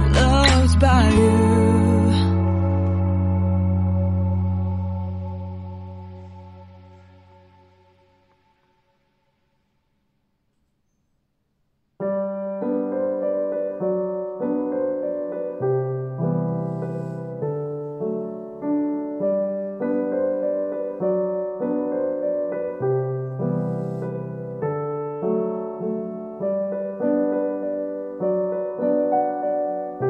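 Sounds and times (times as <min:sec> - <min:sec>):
piano music: 0:00.0 - 0:08.6, 0:12.0 - 0:30.0.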